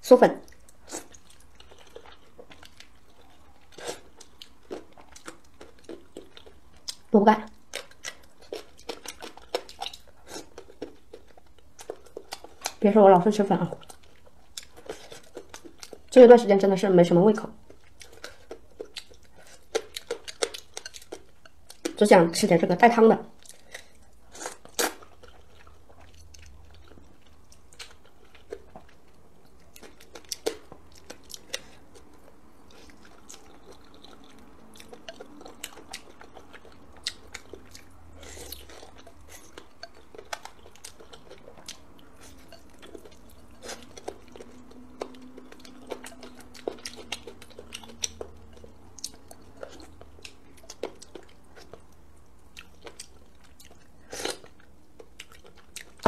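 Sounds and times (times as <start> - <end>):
chewing with wet clicks and smacks: 0.4 - 16.7, 17.5 - 22.6, 23.3 - 56.0.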